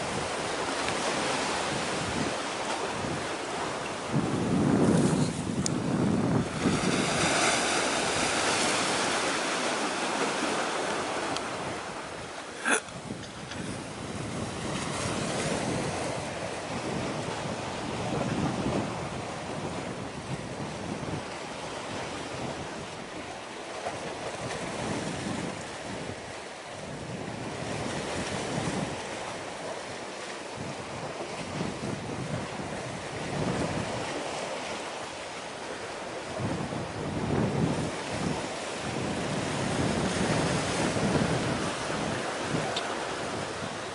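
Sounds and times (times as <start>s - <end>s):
sea waves rushing: 0.0s - 43.9s
wind buffeting microphone: 0.0s - 43.9s.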